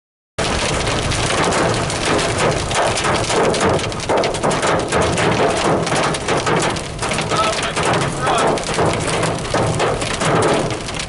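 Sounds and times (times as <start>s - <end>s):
heavy rain on car roof: 0.4s - 11.0s.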